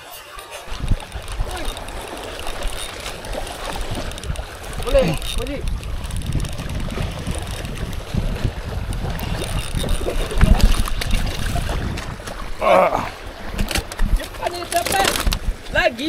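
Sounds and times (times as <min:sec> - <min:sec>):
fish splashing: 0:00.4 - 0:15.7
sea washing against rocks: 0:00.5 - 0:16.0
wind buffeting microphone: 0:00.6 - 0:16.0.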